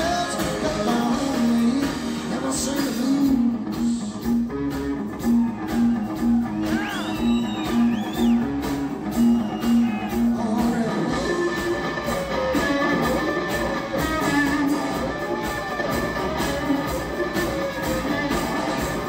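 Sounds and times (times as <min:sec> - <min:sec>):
drums: 0:00.0 - 0:19.0
electric guitar: 0:00.0 - 0:19.0.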